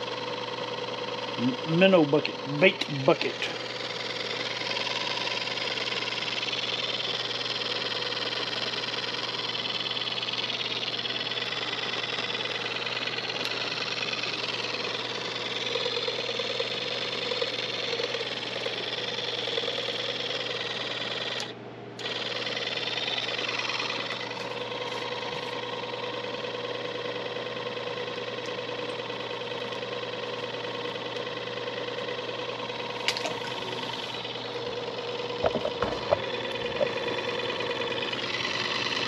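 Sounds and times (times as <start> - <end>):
air pump buzzing: 0.0 - 39.0.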